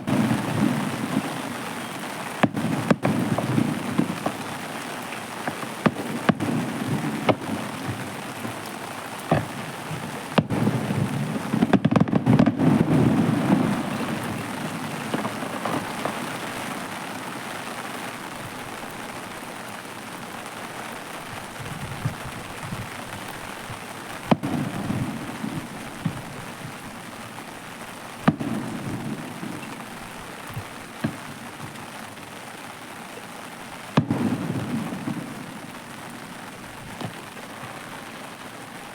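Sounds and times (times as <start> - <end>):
crackling hiss: 0.0 - 38.9
fireworks bangs: 0.0 - 38.9.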